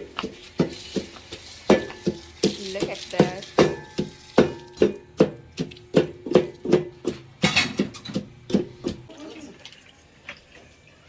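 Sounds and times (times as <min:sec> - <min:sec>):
cooking utensil knocking: 0:00.0 - 0:09.1.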